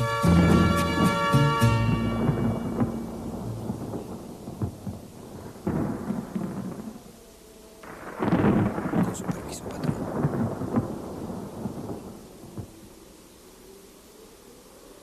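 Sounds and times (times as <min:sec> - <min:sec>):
thunder rumbling: 0:00.0 - 0:13.7
rain: 0:00.0 - 0:15.0.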